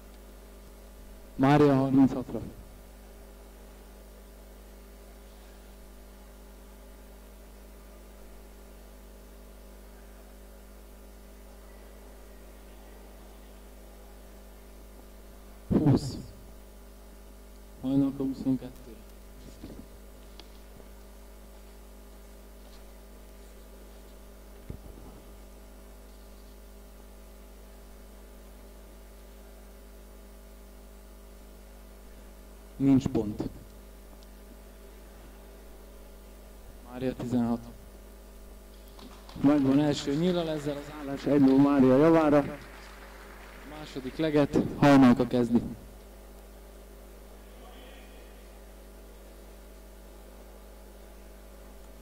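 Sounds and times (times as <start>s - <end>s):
electrical mains hum: 0.0s - 52.0s.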